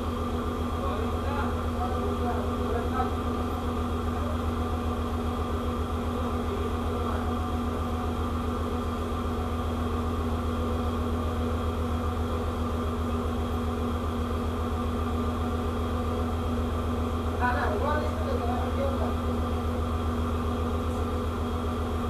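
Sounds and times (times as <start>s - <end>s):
ship machinery drone: 0.0s - 22.0s.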